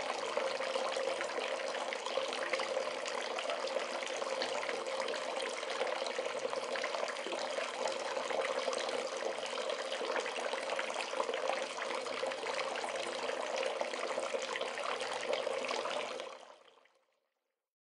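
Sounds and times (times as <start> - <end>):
bath tap running: 0.0 - 16.3.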